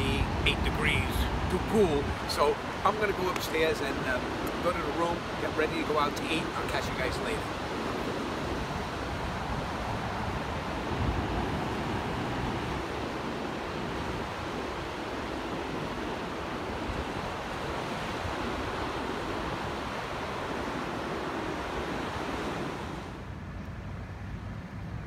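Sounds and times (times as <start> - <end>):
ocean surf breaking: 0.0 - 23.4.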